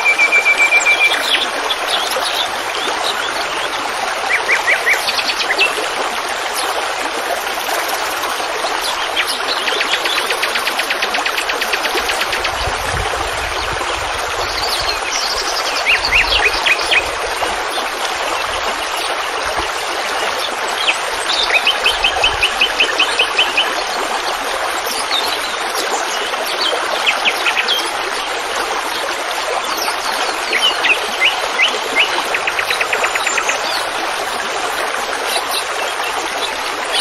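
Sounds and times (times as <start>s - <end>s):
running water: 0.0s - 37.0s.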